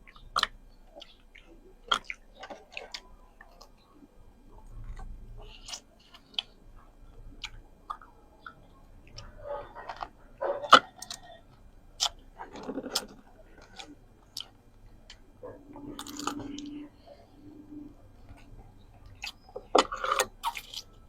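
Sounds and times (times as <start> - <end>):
person chewing: 0.1 - 4.0, 4.6 - 17.3, 18.2 - 21.0.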